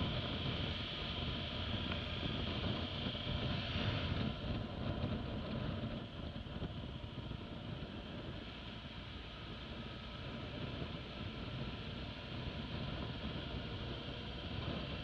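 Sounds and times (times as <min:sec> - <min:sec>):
motorcycle engine at low revs: 0:00.0 - 0:15.0
wind noise on microphone: 0:00.0 - 0:15.0.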